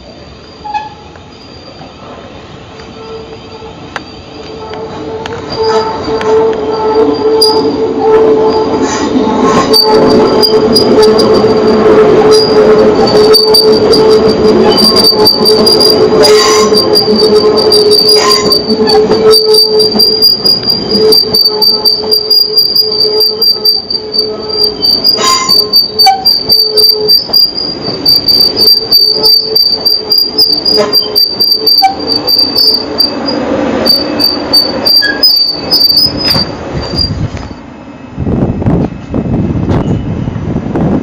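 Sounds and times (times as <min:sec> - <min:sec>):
train wheels squealing: 0:00.3 - 0:40.5.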